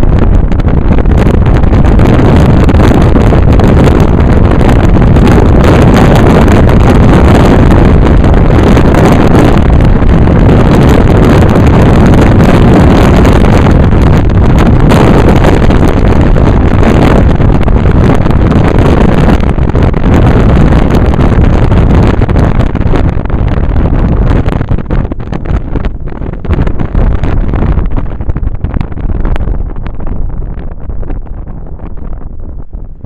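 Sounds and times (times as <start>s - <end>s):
car road and engine rumble: 0.0s - 33.0s
wind buffeting microphone: 0.0s - 33.0s.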